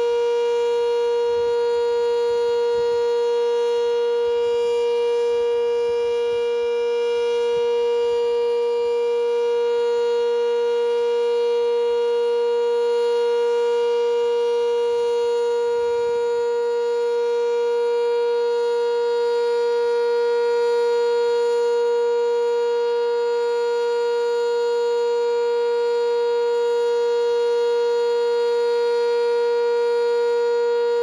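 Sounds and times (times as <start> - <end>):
steady warning siren tone: 0.0 - 31.0.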